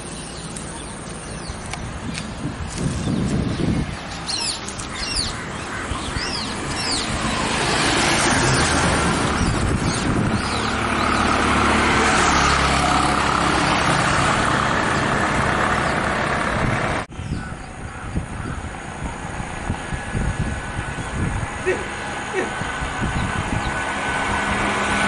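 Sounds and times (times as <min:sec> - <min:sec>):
birds chirping: 0:00.0 - 0:18.7, 0:20.7 - 0:24.8
road noise: 0:00.0 - 0:25.0
vehicle engine hum: 0:00.0 - 0:25.0.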